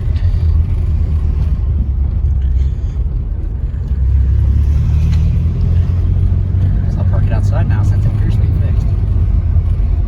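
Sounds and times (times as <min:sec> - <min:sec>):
car engine drone in cabin: 0:00.0 - 0:10.0.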